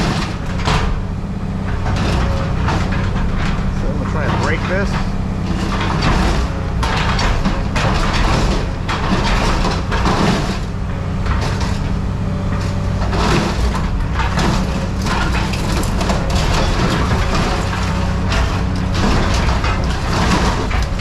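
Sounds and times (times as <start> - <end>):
low engine hum: 0.0 - 21.0
scrap metal crunching and cracking: 0.0 - 21.0.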